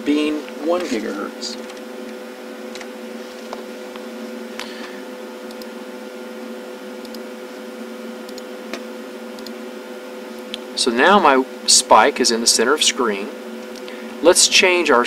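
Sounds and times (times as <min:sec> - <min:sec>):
electrical hum of equipment: 0:00.0 - 0:15.0.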